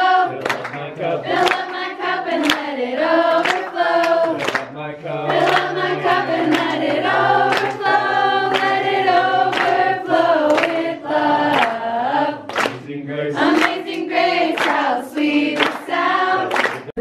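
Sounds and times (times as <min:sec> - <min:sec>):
group of people singing: 0:00.0 - 0:17.0
people clapping in time: 0:00.0 - 0:17.0.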